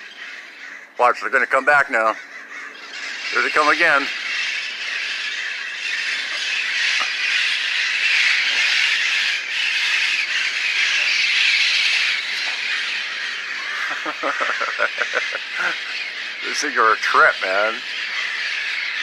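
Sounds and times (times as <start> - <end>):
parrots squawking: 0.0 - 19.0.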